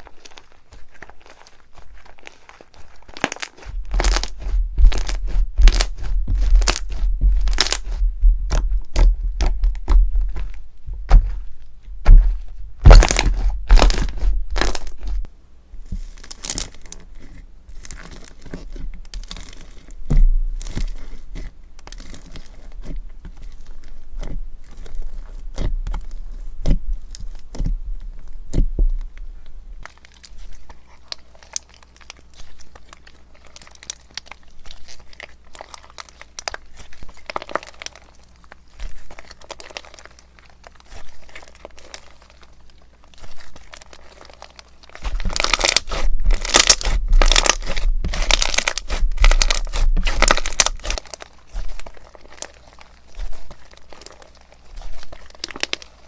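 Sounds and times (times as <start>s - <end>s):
crunchy slime crackling and popping: 0.0s - 56.0s.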